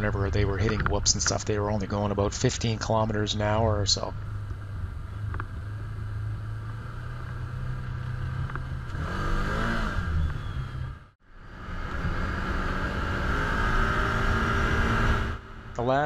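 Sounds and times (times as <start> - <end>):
vehicle engine idling and revving: 0.0 - 16.0.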